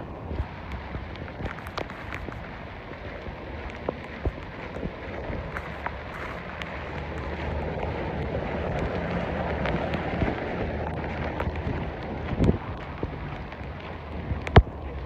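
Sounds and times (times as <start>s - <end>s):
floodwater rushing and splashing: 0.0s - 15.0s
rain ticks: 0.0s - 15.0s
wind rumble on microphone: 0.0s - 15.0s.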